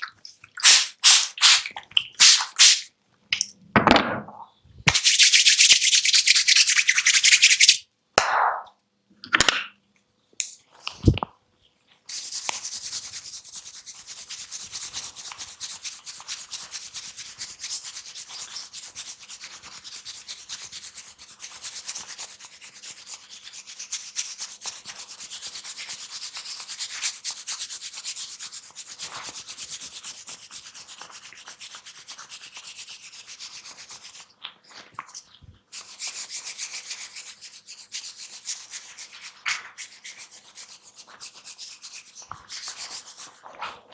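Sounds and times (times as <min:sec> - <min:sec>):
hands scratching through hair: 0:00.6 - 0:02.9, 0:04.9 - 0:07.8, 0:12.0 - 0:43.9.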